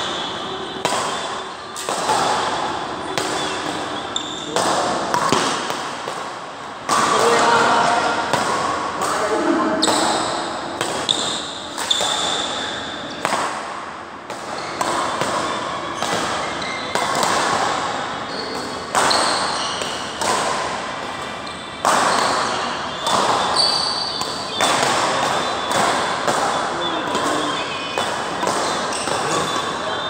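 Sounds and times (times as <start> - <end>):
rackets smacking shuttlecock: 0.1 - 30.0.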